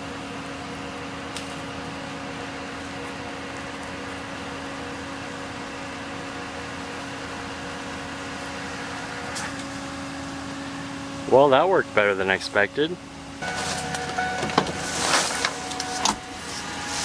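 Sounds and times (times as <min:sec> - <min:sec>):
winches humming and whining: 0:00.0 - 0:17.0.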